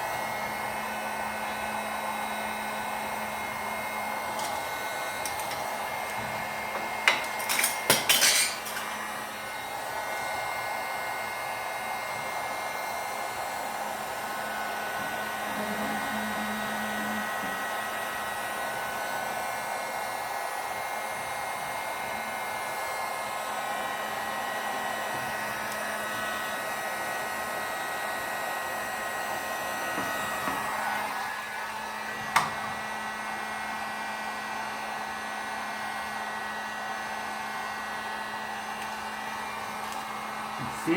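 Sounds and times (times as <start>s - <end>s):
heat gun blowing with whine: 0.0s - 40.9s.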